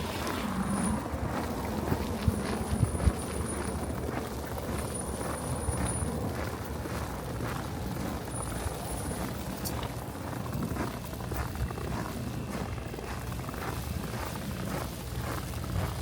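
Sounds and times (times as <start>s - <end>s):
footsteps crunching in snow: 0.0s - 16.0s
wind buffeting microphone: 0.0s - 16.0s.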